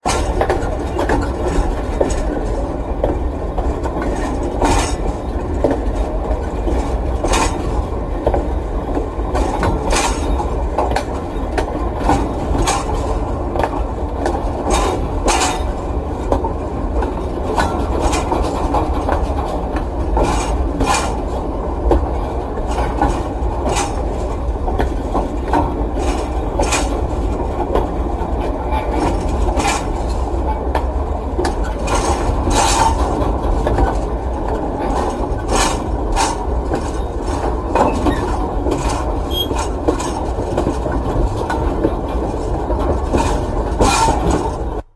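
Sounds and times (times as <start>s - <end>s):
sharp train wheel clacks: 0.0s - 44.9s
train rumbling past: 0.0s - 44.9s.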